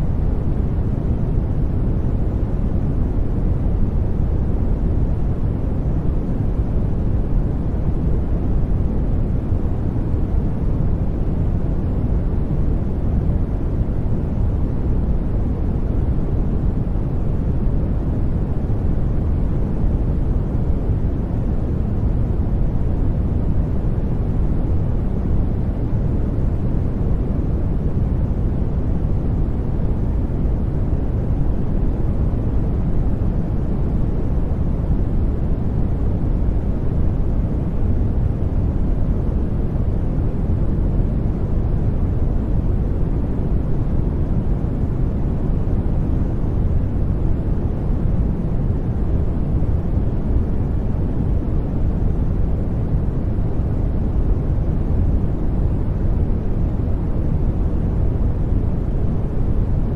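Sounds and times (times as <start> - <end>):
deep white noise: 0.0 - 59.9.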